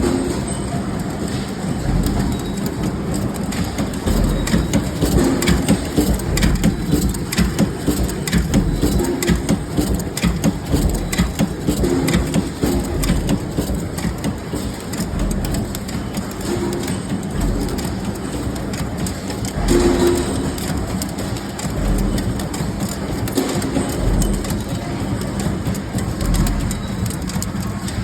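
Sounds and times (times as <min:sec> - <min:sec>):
forging machine clattering: 0:00.0 - 0:28.0.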